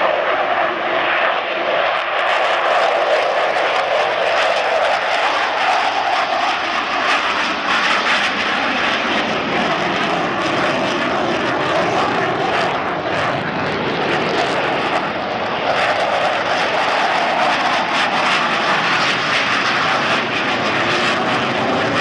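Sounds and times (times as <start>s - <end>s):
fighter jet engines roaring: 0.0s - 22.0s.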